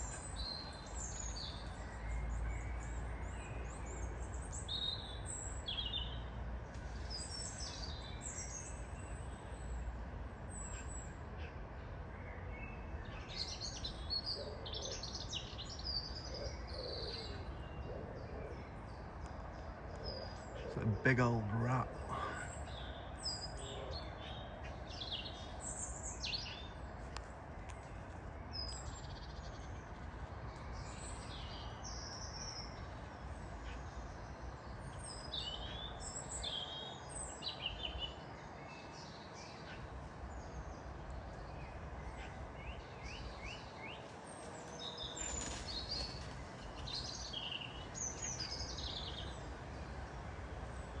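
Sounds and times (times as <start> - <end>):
low background noise: 0.0 - 51.0
small birds singing: 0.0 - 51.0.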